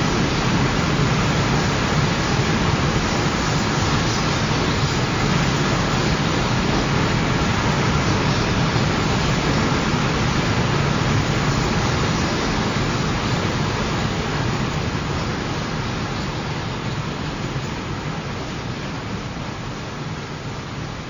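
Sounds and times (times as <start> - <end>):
freight train wheels rumbling: 0.0 - 20.6.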